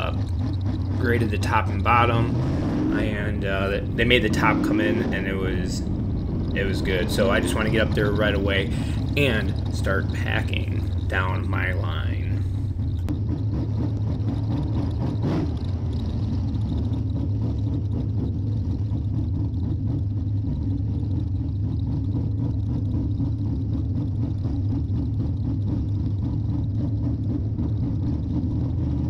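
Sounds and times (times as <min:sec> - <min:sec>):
race car engine running: 0:00.0 - 0:29.0.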